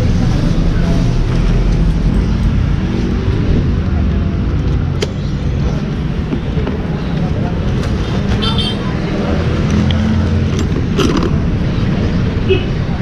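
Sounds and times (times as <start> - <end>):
low rumble of motor vehicle: 0.0 - 13.0.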